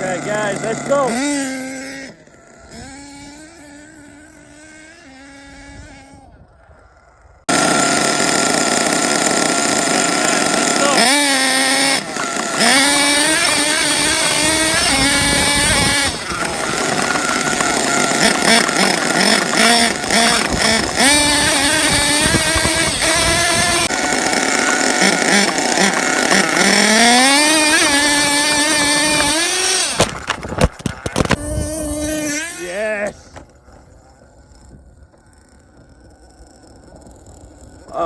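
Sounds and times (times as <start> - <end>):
small nitro engine revving: 0.0 - 38.0.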